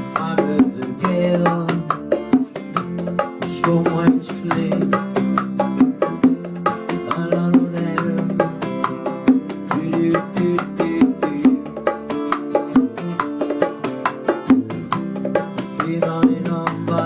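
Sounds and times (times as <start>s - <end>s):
bongos playing: 0.0s - 17.0s
plucked guitar: 0.0s - 17.0s.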